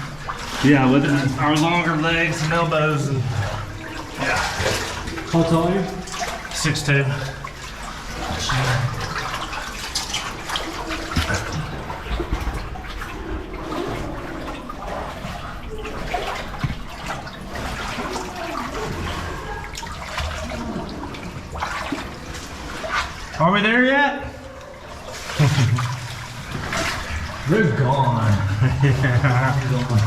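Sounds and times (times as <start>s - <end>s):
running water: 0.0s - 30.0s.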